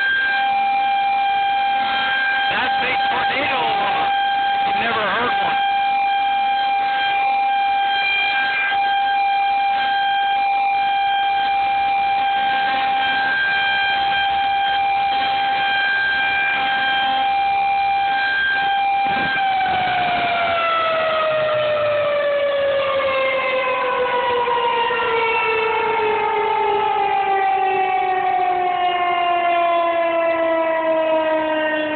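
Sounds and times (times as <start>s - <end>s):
warning siren: 0.0s - 31.9s.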